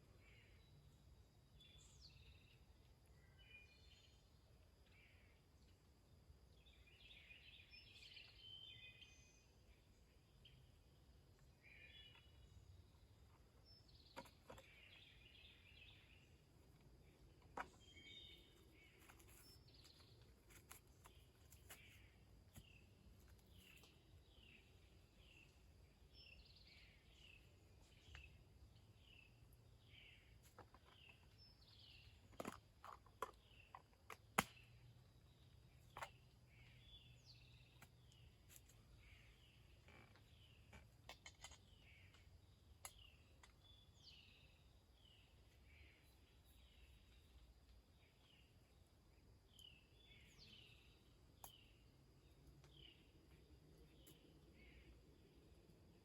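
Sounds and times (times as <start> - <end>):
bird chirping: 0.0 - 5.8, 6.5 - 56.0.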